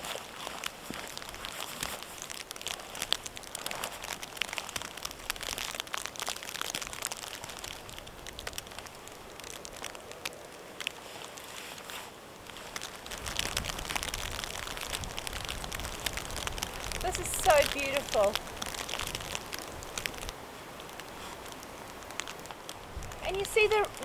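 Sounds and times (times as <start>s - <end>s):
tarp fabric rustling and crinkling: 0.0s - 24.0s.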